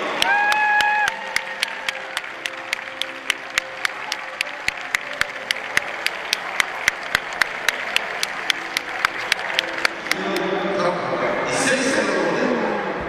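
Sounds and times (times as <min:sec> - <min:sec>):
audience clapping in unison: 0:00.0 - 0:10.5.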